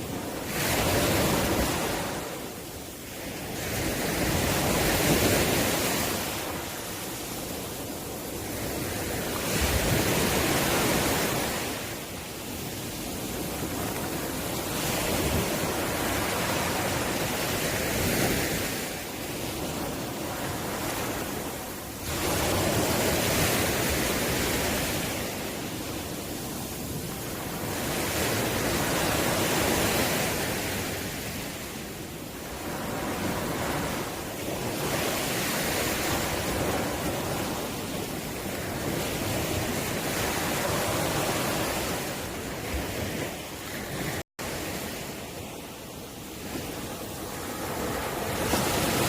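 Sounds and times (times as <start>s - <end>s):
ocean waves breaking on shore: 0.0s - 49.0s.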